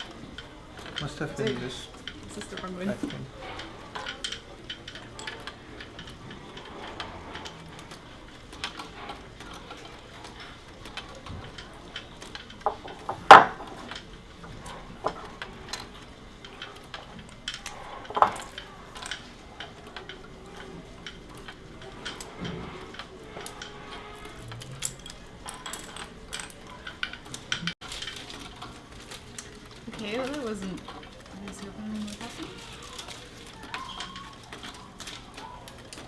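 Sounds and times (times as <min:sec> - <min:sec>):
plastic bricks clicking and clattering: 0:00.0 - 0:36.0.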